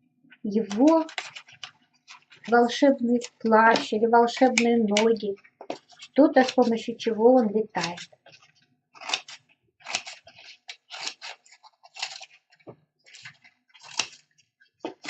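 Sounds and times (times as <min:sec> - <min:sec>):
paper rustling and scraping: 0:00.5 - 0:15.0.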